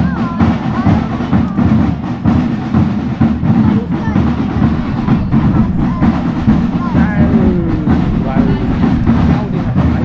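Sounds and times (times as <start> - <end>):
crowd talking: 0.0 - 10.0
marching drums: 0.0 - 10.0.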